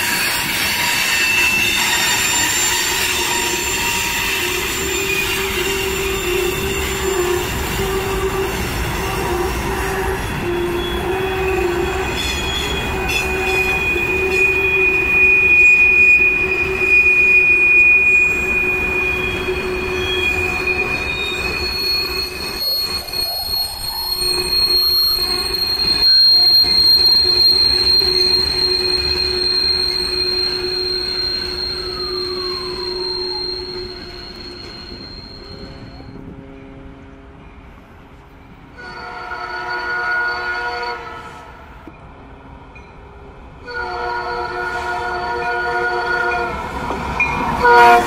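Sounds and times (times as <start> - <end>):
wheels squealing on rails: 0.0 - 37.5, 38.2 - 42.1, 42.8 - 48.0
train rolling past: 0.0 - 48.0.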